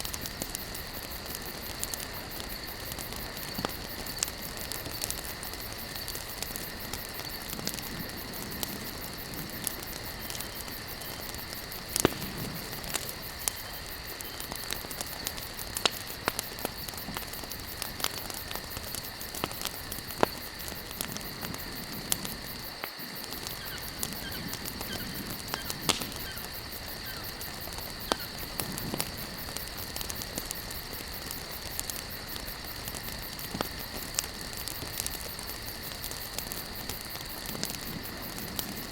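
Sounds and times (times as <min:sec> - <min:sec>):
campfire crackling and popping: 0:00.0 - 0:38.9
insect chirring: 0:00.0 - 0:38.9.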